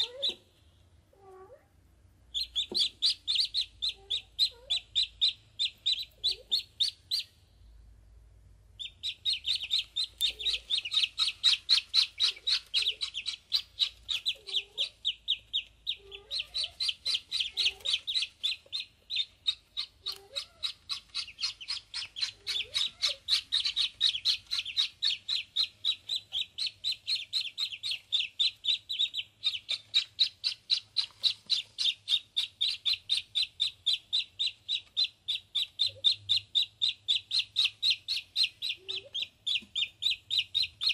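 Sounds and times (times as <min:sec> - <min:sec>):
ducklings peeping: 0:00.0 - 0:01.6, 0:02.2 - 0:07.8, 0:08.6 - 0:40.9.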